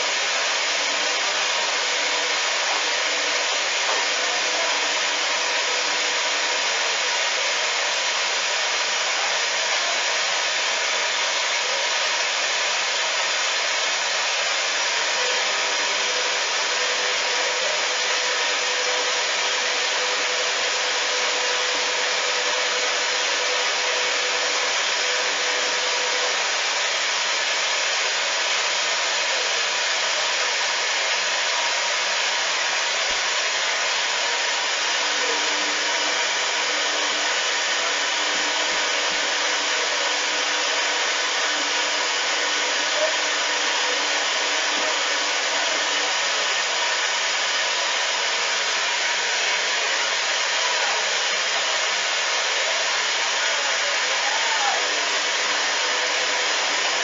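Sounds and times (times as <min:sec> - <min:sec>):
washing machine whirring hiss: 0:00.0 - 0:57.0.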